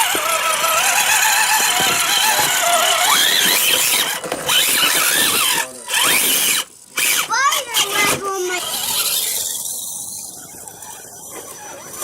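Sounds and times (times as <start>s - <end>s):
electric motor and drivetrain whining: 0.0s - 12.0s.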